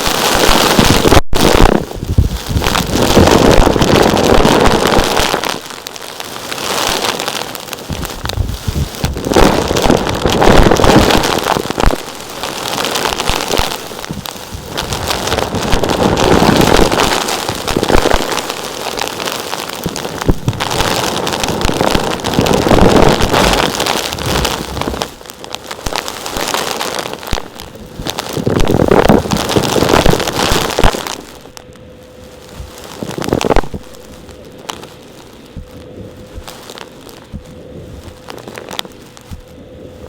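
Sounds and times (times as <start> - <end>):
grit crackling and rattling: 0.0 - 40.0.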